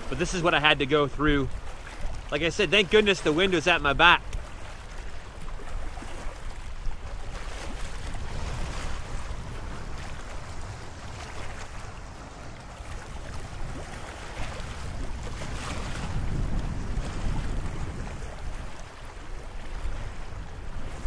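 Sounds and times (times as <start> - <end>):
waves lapping on rocky shore: 0.0 - 21.0
wind buffeting microphone: 3.7 - 21.0.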